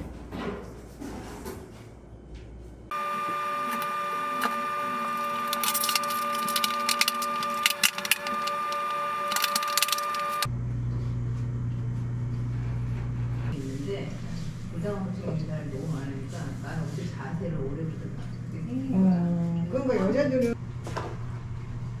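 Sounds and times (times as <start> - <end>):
steady hum: 2.4 - 22.0.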